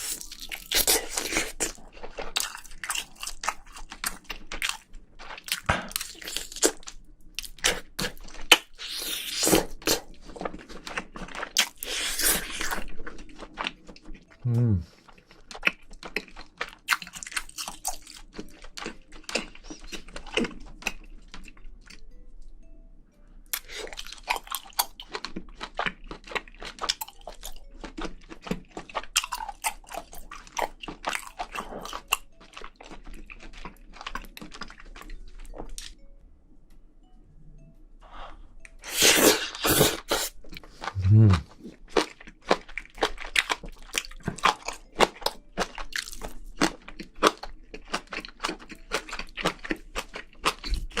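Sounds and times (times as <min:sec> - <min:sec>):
close-miked chewing: 0:00.0 - 0:22.0, 0:23.5 - 0:36.0, 0:38.6 - 0:51.0.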